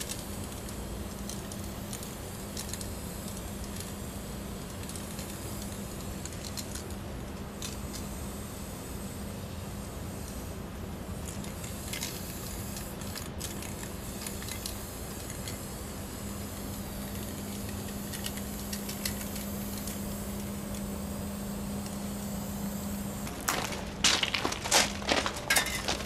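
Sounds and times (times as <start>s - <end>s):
spray paint cans hissing: 0.0s - 26.0s.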